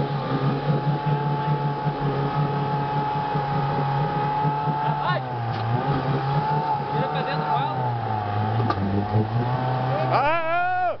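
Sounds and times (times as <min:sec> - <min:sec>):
vehicle engine at steady revs: 0:00.0 - 0:10.1.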